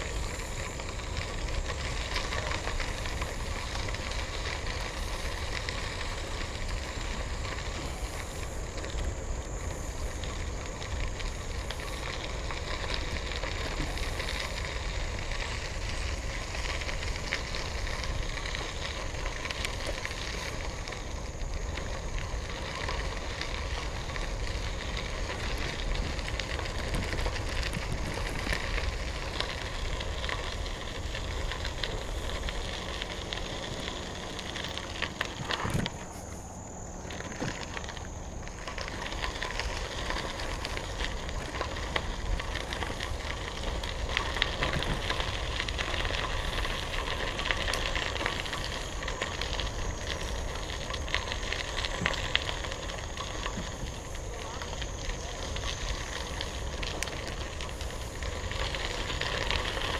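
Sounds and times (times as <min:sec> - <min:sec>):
bicycle tyres crunching on gravel: 0:00.0 - 0:59.9
steady low rumble: 0:00.0 - 0:59.9.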